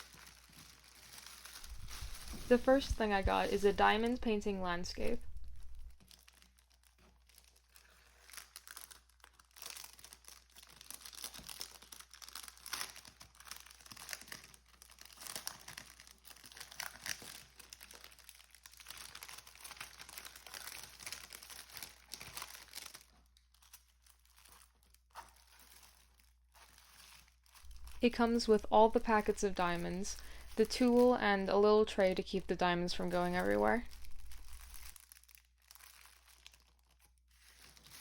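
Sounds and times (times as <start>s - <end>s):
plastic packaging crinkling: 0.0s - 38.0s.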